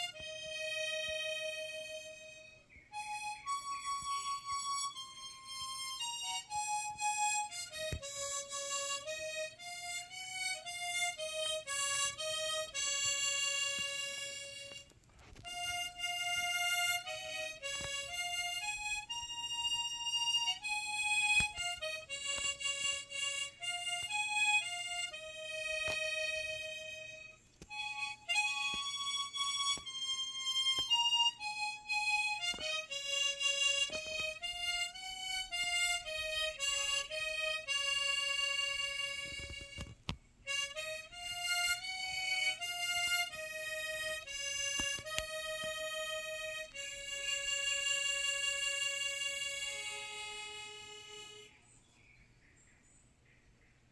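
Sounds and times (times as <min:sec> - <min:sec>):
solo harmonica melody: 0:00.0 - 0:51.8.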